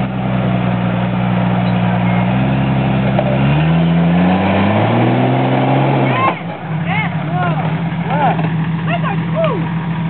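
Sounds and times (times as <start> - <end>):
car engine straining under load: 0.0 - 10.0.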